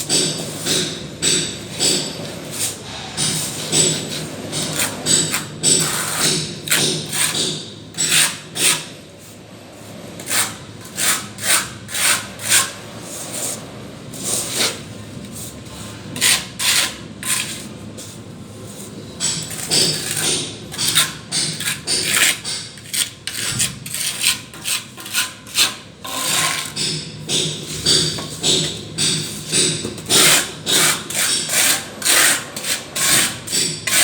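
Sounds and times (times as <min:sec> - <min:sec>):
trowel scraping wet plaster: 0:02.5 - 0:08.9, 0:10.2 - 0:18.2, 0:19.3 - 0:26.8, 0:27.6 - 0:34.0.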